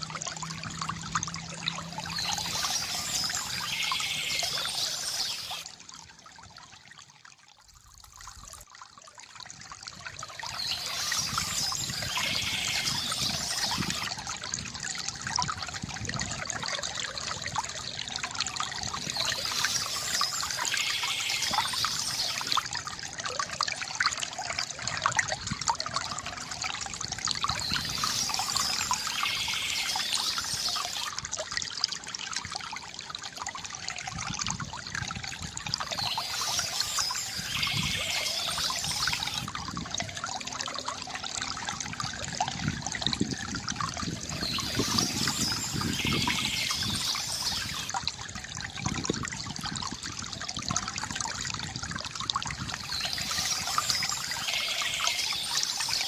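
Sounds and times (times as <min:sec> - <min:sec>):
fountain water splashing into basin: 0:00.0 - 0:56.0.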